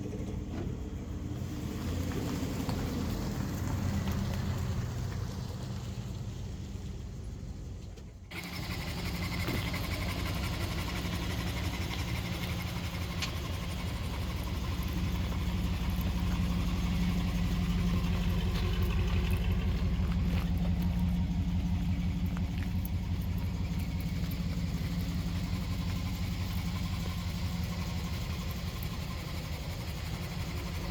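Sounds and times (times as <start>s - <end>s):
pickup truck engine running: 0.0s - 30.9s.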